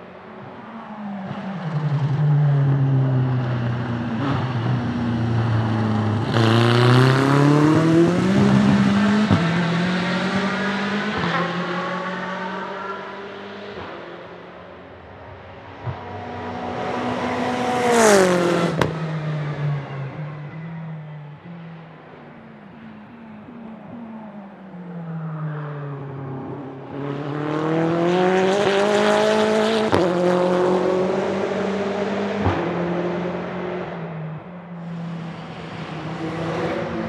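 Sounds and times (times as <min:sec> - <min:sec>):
race car accelerating: 0:00.0 - 0:37.0.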